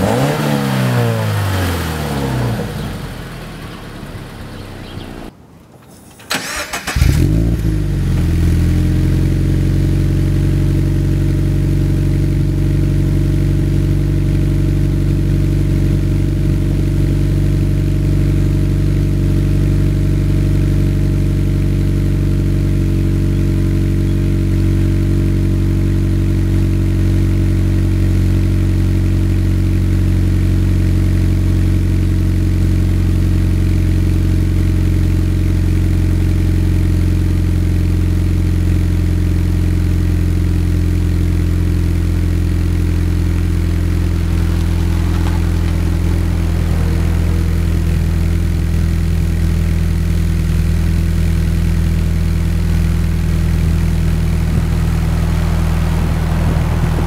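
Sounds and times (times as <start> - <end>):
car engine starting and idling: 0.0 - 57.0.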